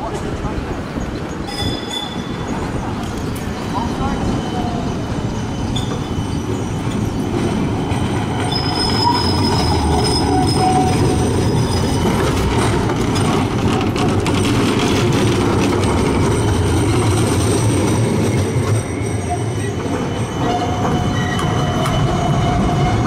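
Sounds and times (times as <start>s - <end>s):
tram rumbling on track: 0.0s - 23.0s
tram wheels squealing: 0.4s - 23.0s.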